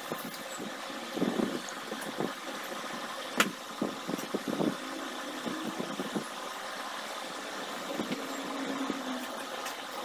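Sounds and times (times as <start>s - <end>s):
mechanical motor hum: 0.0s - 10.0s.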